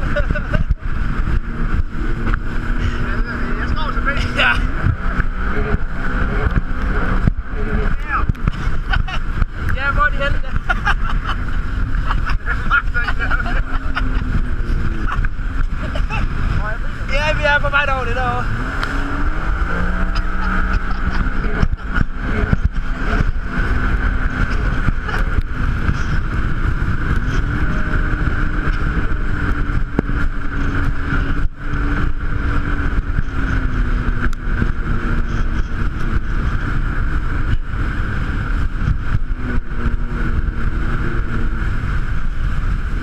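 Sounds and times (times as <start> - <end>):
jet ski engine running: 0.0 - 43.0
wind rumbling on microphone: 0.0 - 43.0.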